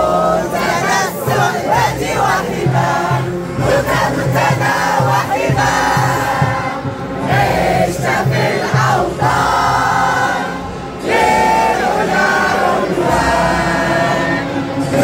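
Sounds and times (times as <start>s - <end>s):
crowd singing and chanting: 0.0s - 15.0s.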